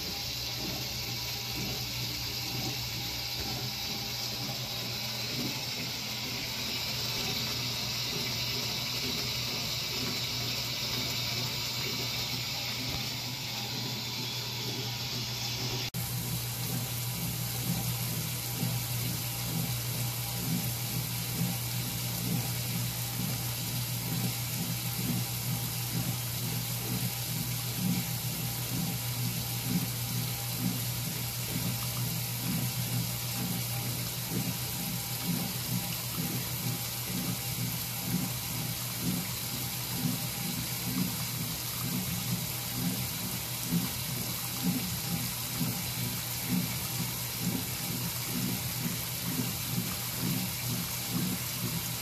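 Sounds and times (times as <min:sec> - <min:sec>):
water spraying into washer tub: 0:00.0 - 0:52.0.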